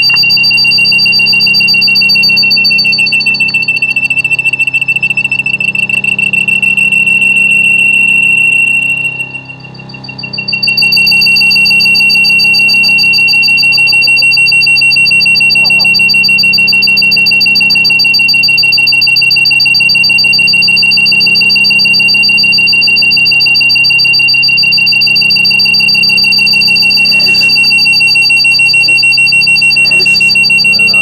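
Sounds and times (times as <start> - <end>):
shrill pulsing electronic tone: 0.0 - 31.0.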